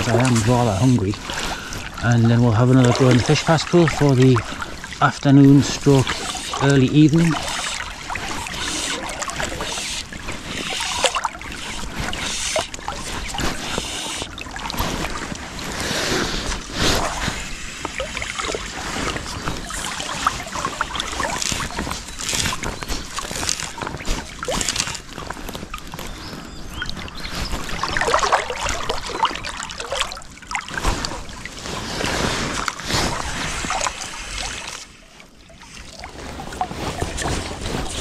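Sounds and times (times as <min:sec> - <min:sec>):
river water sloshing and lapping: 0:00.0 - 0:38.0.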